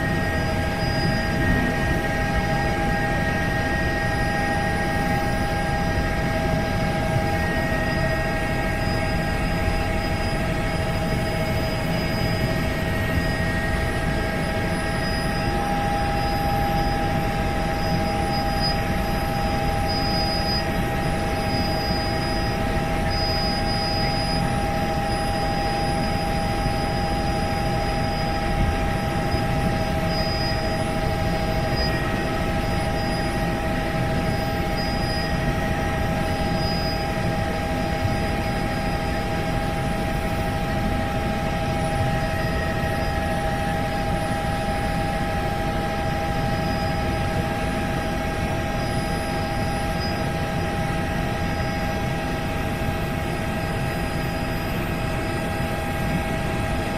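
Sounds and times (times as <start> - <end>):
helicopter engine and rotor noise: 0.0 - 56.9.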